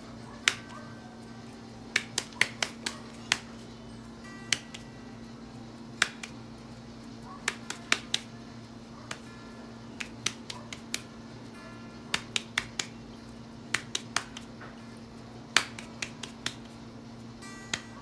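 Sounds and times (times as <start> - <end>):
dough and fat crackling on griddle: 0.0 - 18.0
steady low hum: 0.0 - 18.0.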